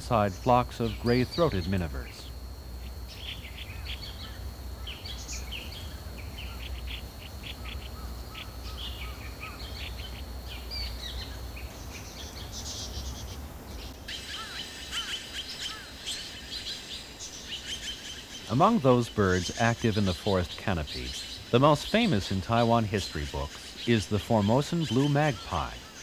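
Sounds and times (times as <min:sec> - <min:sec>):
forest birds chirping: 0:00.0 - 0:26.0.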